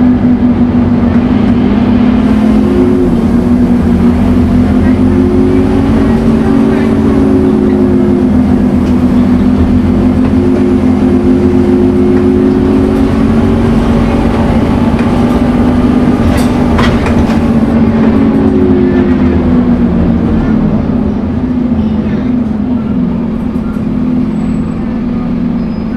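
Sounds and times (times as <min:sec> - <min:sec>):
bus engine drone with whine: 0:00.0 - 0:25.9.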